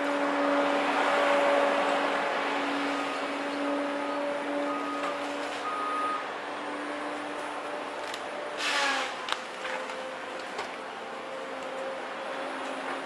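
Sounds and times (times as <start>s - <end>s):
harvester engine and hydraulics humming: 0.0s - 13.0s.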